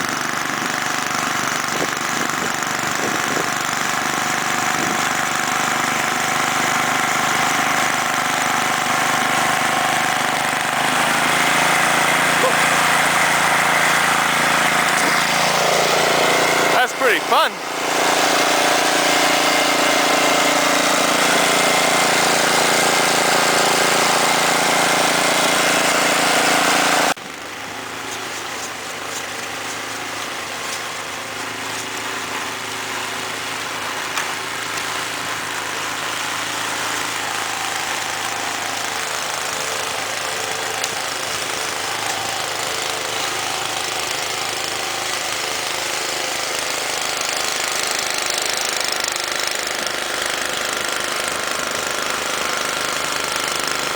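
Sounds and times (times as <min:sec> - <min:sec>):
snowblower engine running: 0:00.0 - 0:53.9.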